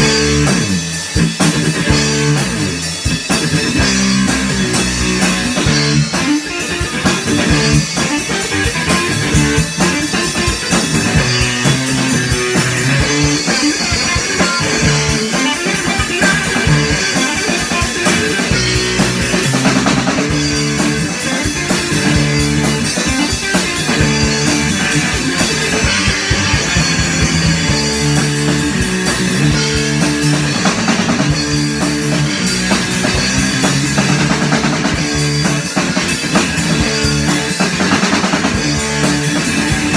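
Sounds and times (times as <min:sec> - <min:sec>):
drums and cymbals: 0:00.0 - 0:39.9
guitar riff: 0:00.0 - 0:39.9.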